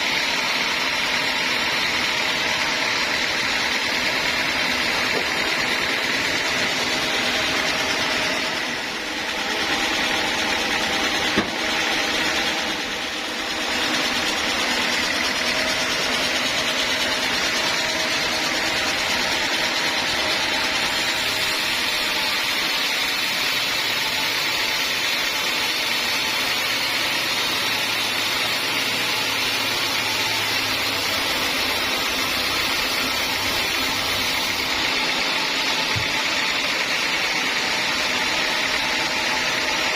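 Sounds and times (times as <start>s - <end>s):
band sawmill sawing log: 0.0s - 39.9s.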